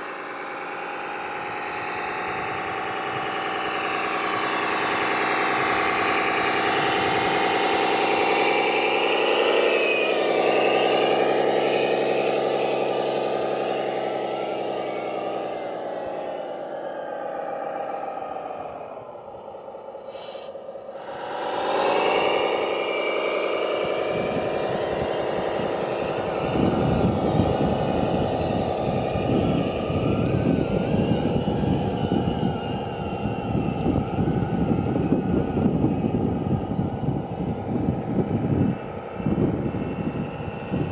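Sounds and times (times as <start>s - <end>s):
model truck engine drone: 0.0s - 40.9s
motor and gear whine: 0.0s - 40.9s.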